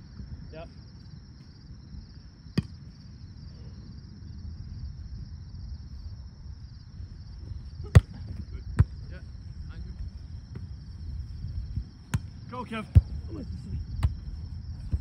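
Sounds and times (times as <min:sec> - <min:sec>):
insects chirring: 0:00.0 - 0:15.0
wind rumble on microphone: 0:00.0 - 0:15.0.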